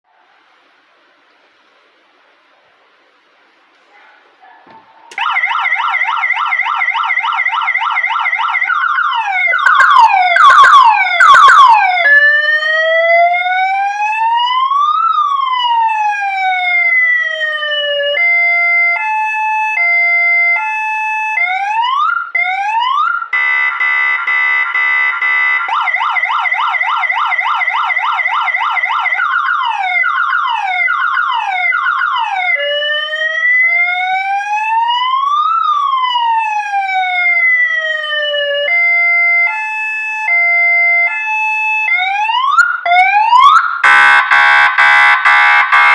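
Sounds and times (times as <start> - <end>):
electronic siren cycling tones: 5.2 - 24.2, 24.8 - 45.9.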